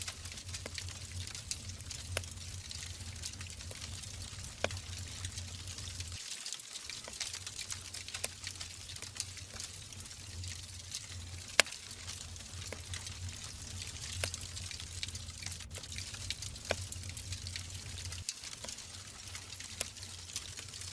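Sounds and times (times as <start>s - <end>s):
fireplace logs crackling: 0.0s - 20.9s.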